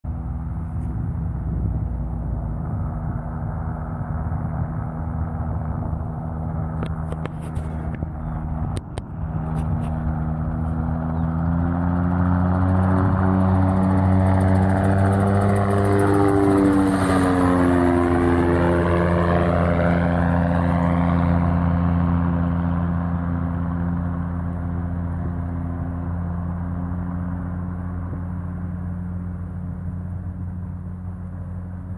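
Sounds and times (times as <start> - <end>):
propeller airplane engine drone: 0.0 - 31.9.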